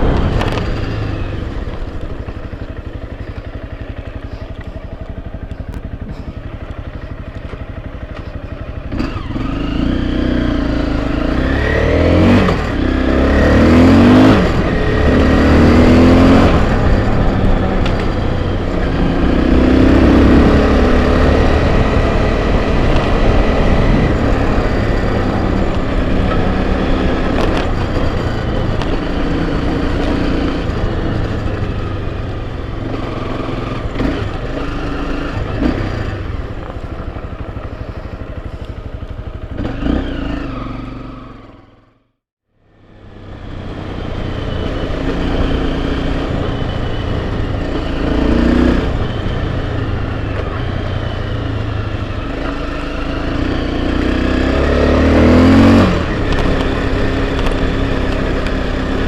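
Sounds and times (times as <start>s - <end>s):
dirt bike engine revving: 8.8s - 36.6s, 37.2s - 41.6s, 43.5s - 59.0s.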